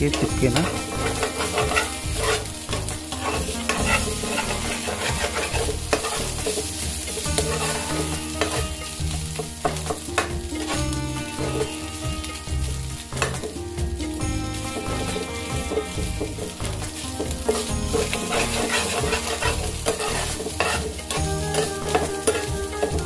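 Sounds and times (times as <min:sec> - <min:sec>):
paste sizzling in hot fat: 0:00.0 - 0:23.0
spoon scraping a pan: 0:00.1 - 0:13.6, 0:14.7 - 0:23.0.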